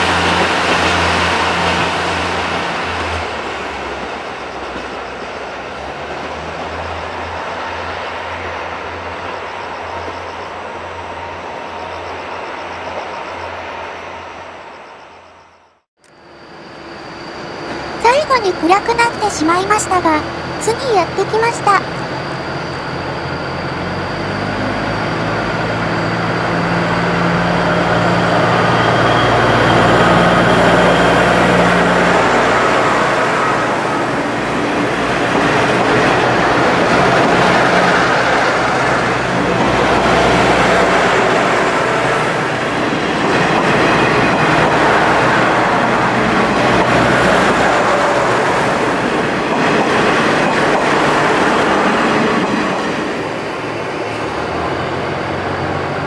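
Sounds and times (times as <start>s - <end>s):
wheels rushing on rail: 0.0s - 19.2s, 21.8s - 56.0s
diesel railcar engines: 0.0s - 56.0s.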